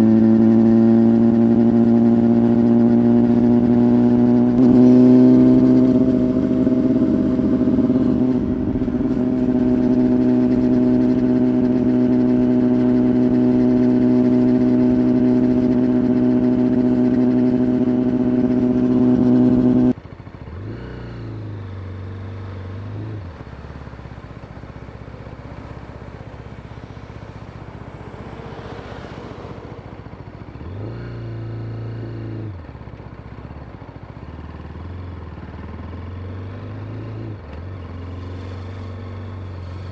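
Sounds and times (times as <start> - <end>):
motorcycle engine idling: 0.0 - 31.5, 32.5 - 39.9
motorcycle engine running loud: 0.0 - 39.9.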